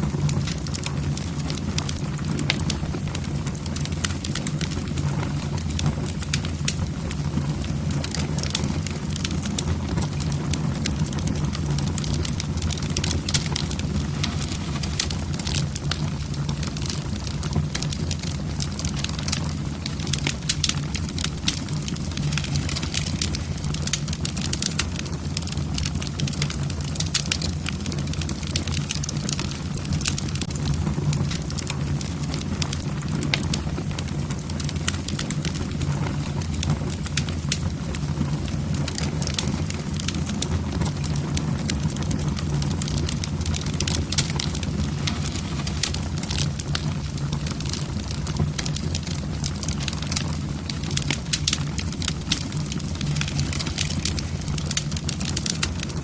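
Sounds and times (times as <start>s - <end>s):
logs crackling and popping: 0.0s - 56.0s
low rumble of fire: 0.0s - 56.0s.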